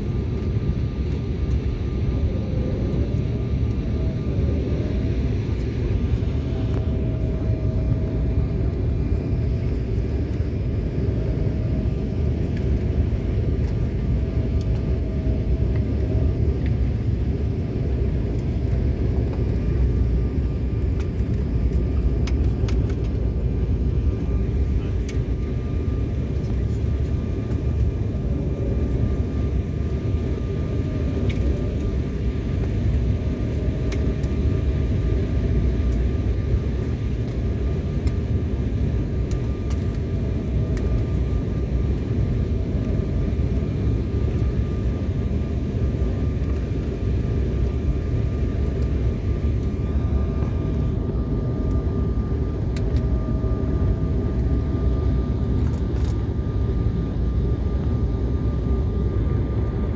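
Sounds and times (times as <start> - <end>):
airliner engine rumble: 0.0 - 59.9
faint steady whine: 0.0 - 59.9.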